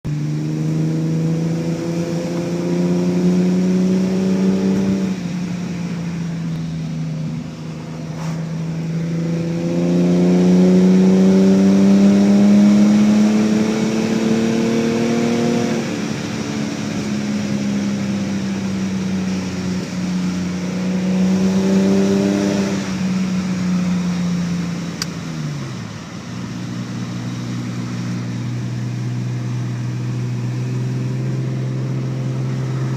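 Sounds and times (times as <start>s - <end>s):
car engine revving: 0.1s - 32.9s.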